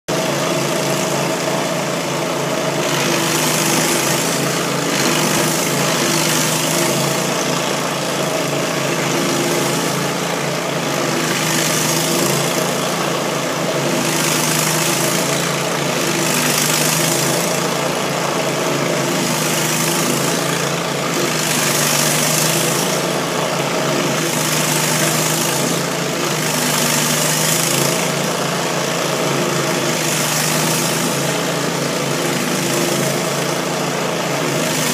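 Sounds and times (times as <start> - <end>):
cutter wheel grinding stump: 0.1 - 34.9
gas engine running under load: 0.1 - 34.9.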